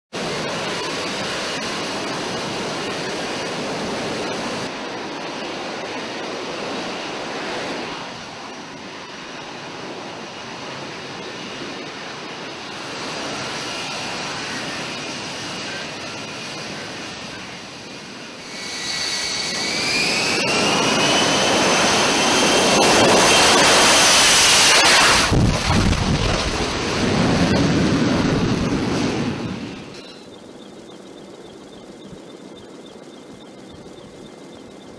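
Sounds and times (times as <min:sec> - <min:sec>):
jet engine rushing: 0:00.2 - 0:30.4
rising jet whine: 0:00.2 - 0:34.9.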